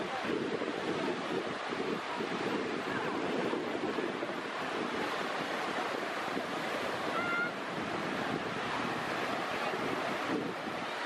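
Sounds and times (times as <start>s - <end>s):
sea surf: 0.0s - 11.0s
wind buffeting microphone: 0.0s - 11.0s.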